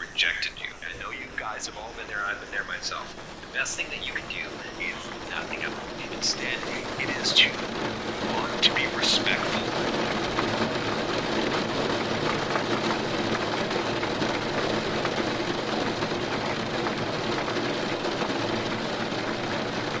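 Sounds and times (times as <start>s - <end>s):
steady rain hissing: 0.0s - 20.0s
patter of raindrops: 0.1s - 20.0s.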